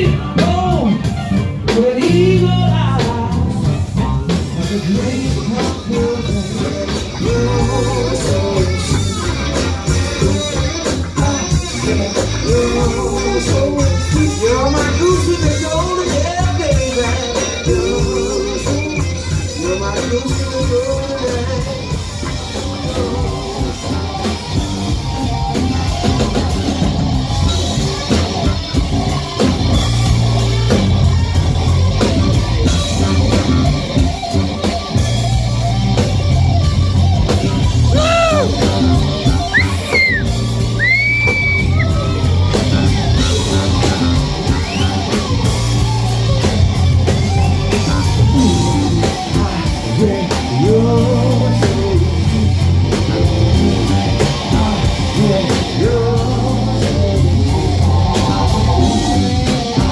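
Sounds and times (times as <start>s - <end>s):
person singing: 0.0s - 30.0s, 37.5s - 59.9s
funk band playing: 0.0s - 59.9s.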